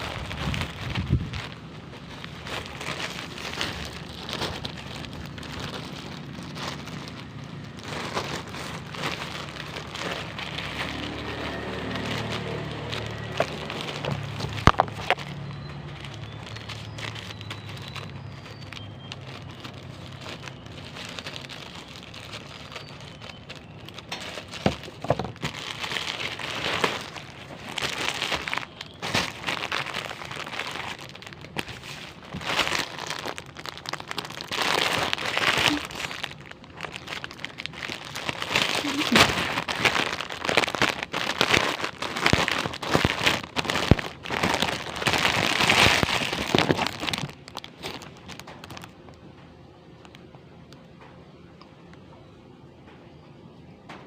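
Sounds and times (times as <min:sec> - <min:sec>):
packaging crinkling and rustling: 0:00.0 - 0:50.9.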